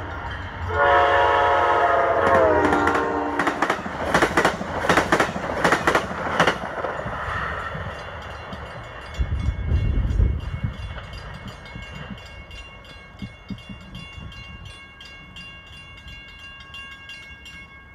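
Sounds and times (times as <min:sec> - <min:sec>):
crossing bell ringing: 0:00.0 - 0:03.8, 0:06.6 - 0:17.9
train rumble: 0:00.0 - 0:17.7.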